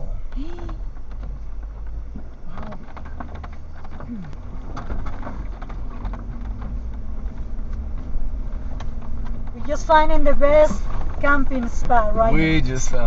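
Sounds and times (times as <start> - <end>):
car engine and road rumble: 0.0 - 13.0
knocks and rattles over bumps: 0.0 - 13.0.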